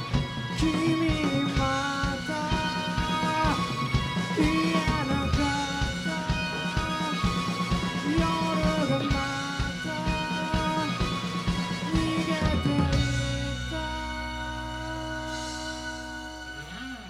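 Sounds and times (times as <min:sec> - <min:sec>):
drum beat: 0:00.0 - 0:13.9
bass: 0:00.0 - 0:17.0
rock band playing: 0:00.0 - 0:17.0
sliding lead guitar notes: 0:00.0 - 0:17.0.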